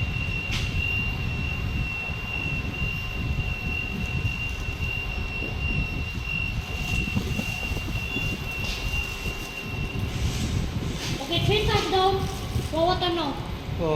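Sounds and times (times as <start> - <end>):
heavy machinery low rumble: 0.0 - 13.9
high-pitched machine whine: 0.0 - 13.9.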